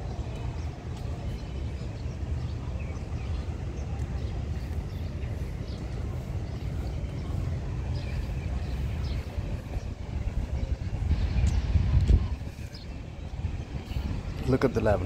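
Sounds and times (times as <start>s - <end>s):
train rumbling past: 2.1s - 15.0s.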